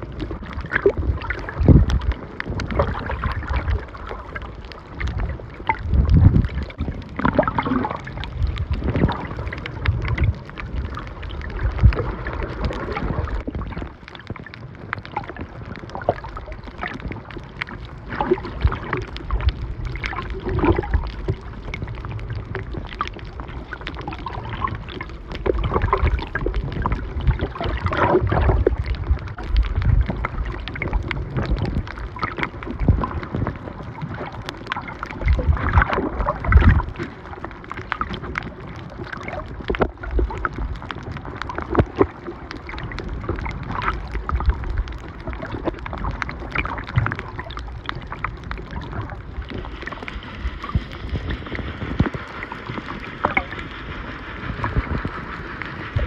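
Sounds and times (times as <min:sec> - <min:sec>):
small irregular clicks: 0:00.0 - 0:56.0
water sloshing underwater: 0:00.0 - 0:56.0.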